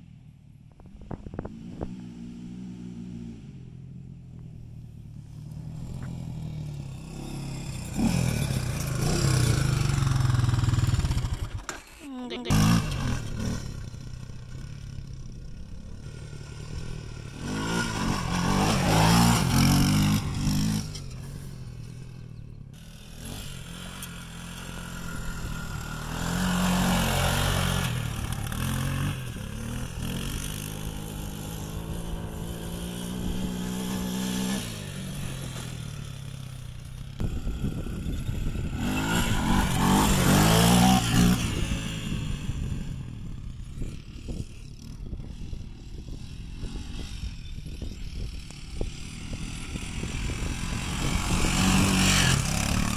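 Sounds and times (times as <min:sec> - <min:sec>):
quad engine revving: 0:05.5 - 0:44.5, 0:45.2 - 0:52.9.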